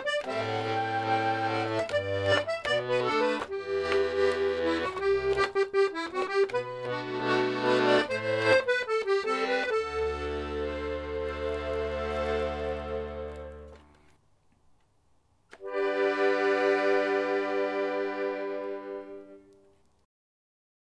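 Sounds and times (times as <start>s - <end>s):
button accordion playing lively tune: 0.0s - 14.0s, 15.6s - 19.6s.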